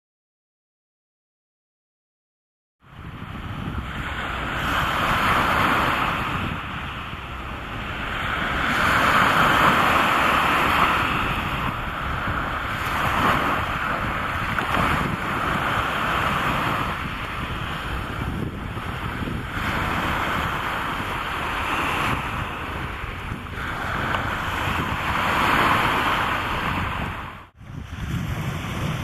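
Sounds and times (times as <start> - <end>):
wind buffeting microphone: 2.8 - 29.0
sea waves washing: 2.9 - 29.0.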